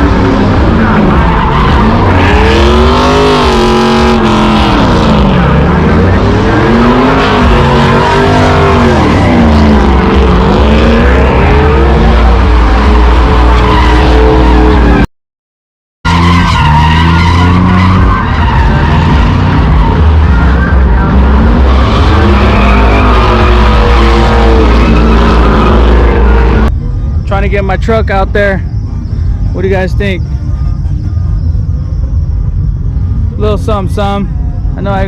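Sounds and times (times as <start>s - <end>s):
tyres skidding: 0.0s - 15.1s, 16.1s - 35.0s
vehicle engine revving: 0.0s - 15.1s, 16.1s - 35.0s.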